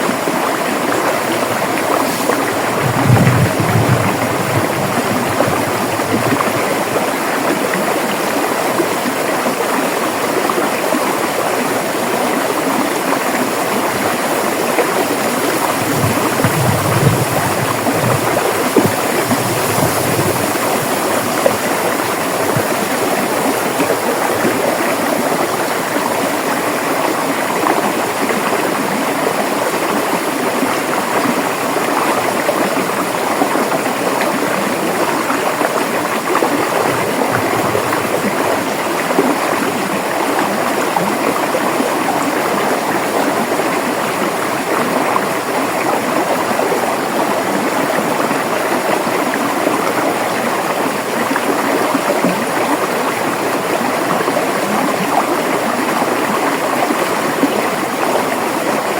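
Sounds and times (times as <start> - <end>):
deep water gurgles: 0.0 - 58.9
river rushing and babbling: 0.0 - 58.9.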